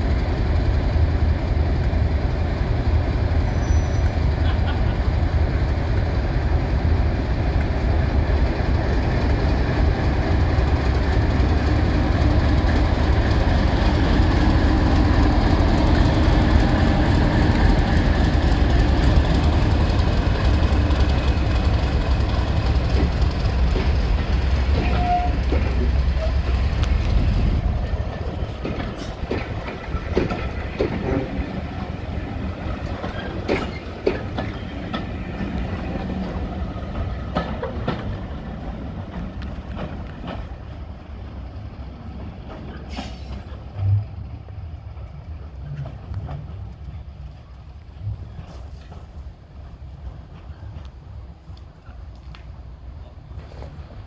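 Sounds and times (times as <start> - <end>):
train wheels clicking over rail joints: 0.0 - 52.5
diesel locomotive engine running: 0.0 - 54.0.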